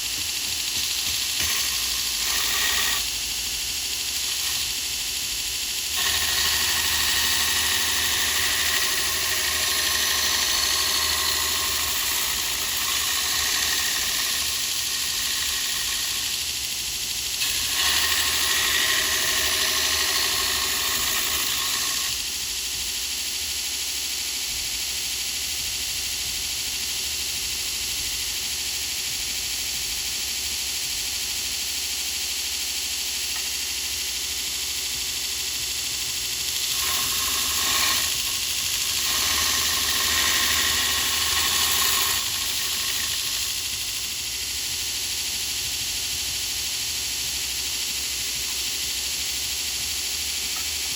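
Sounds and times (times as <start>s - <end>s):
electric grinder grinding metal: 0.0s - 23.8s, 32.6s - 50.9s.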